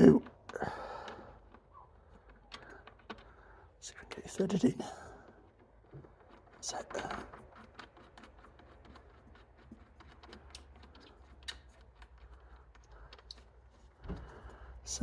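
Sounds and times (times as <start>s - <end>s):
small metallic clicks: 0.0s - 15.0s.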